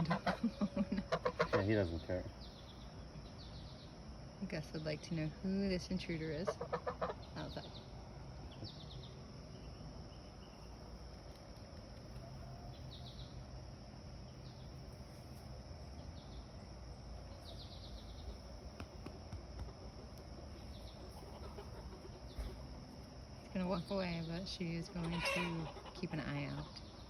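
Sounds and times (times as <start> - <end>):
small birds chirping: 0.0 - 13.6, 14.2 - 27.0
insects buzzing: 0.0 - 27.0.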